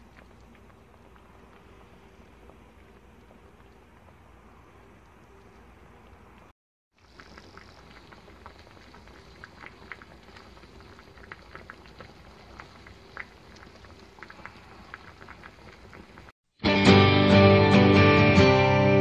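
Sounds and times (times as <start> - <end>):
soup boiling and bubbling: 0.0 - 16.4.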